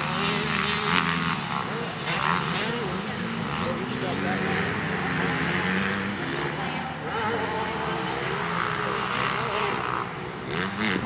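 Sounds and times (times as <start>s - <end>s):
dirt bike engines racing: 0.0s - 11.0s.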